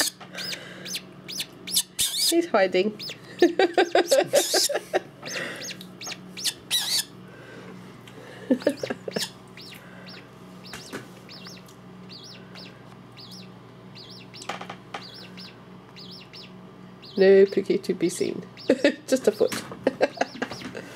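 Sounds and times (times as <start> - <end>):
bird chick peeping: 0.0 - 7.2, 8.6 - 20.9.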